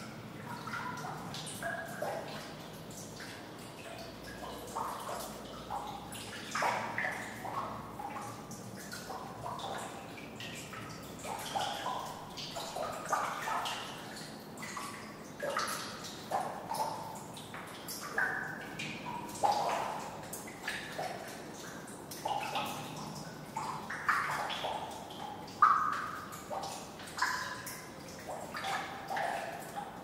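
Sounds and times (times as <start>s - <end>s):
water dripping in a pipe: 0.0s - 30.0s.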